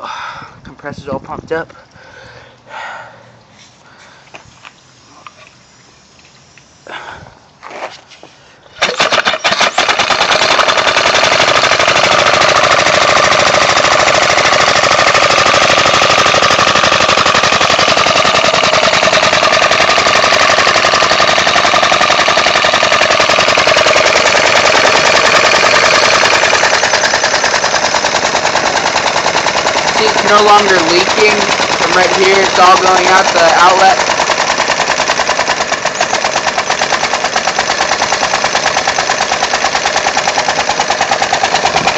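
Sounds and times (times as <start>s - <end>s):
air engine exhaust chatter: 1.4s - 41.9s.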